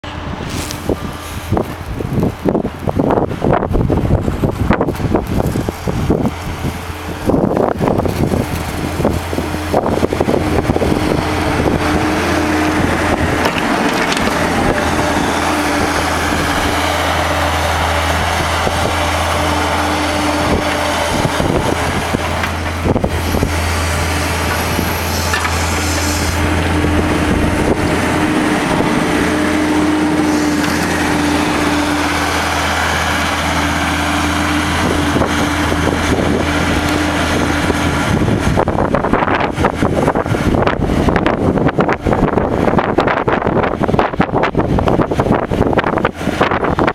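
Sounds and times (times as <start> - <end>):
skid steer engine running: 0.0 - 46.9
wind buffeting microphone: 0.0 - 46.9.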